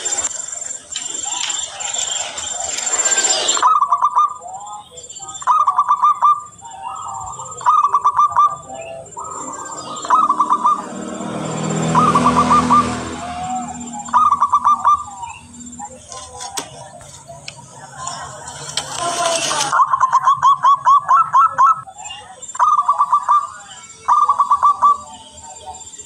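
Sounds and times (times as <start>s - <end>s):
dove cooing trills: 0.0s - 25.8s.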